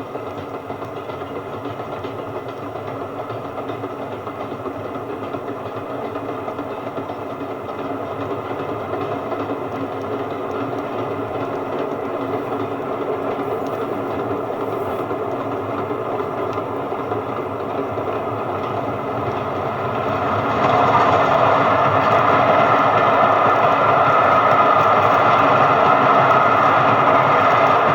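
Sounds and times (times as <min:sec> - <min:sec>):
train running on track: 0:00.0 - 0:27.9.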